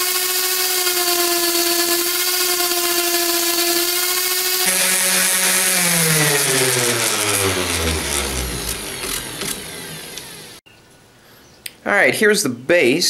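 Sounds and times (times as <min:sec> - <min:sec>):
orbital sander spinning down: 0:00.0 - 0:10.6.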